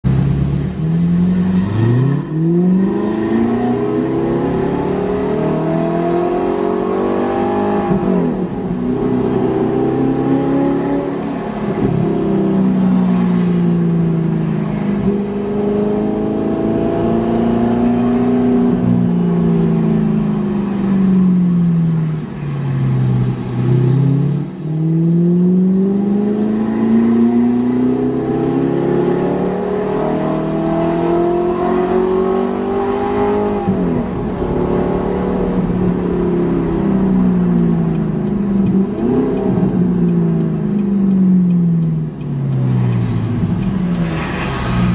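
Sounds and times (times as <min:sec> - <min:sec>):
car exhaust accelerating: 0:00.0 - 0:44.9.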